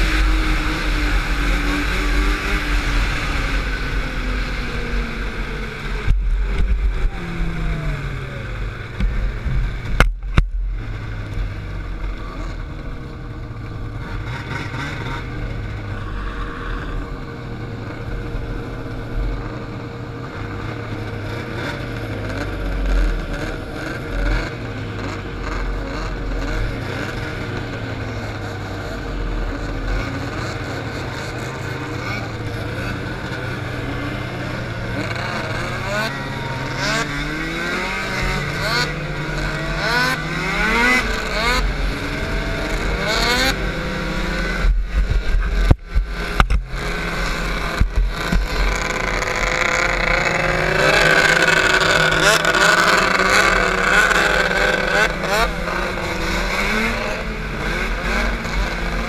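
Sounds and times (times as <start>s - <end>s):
snowmobile engine revving: 0.0s - 10.1s, 10.7s - 59.0s
track noise: 0.0s - 59.0s
wind: 0.0s - 59.0s.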